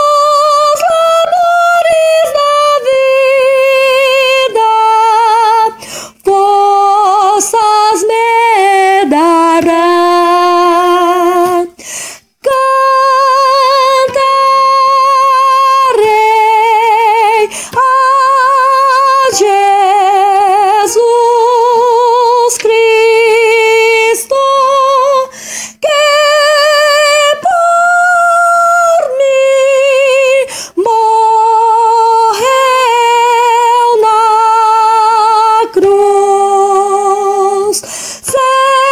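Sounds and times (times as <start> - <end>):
soprano singing a hymn: 0.0 - 38.9.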